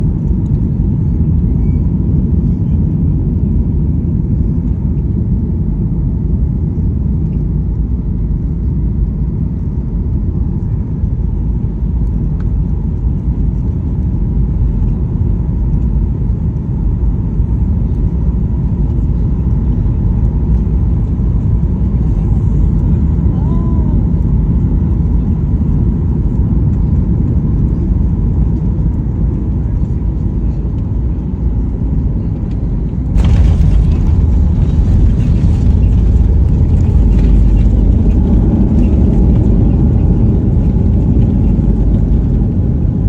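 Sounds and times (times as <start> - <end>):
airliner engine rumble in cabin: 0.0 - 43.0.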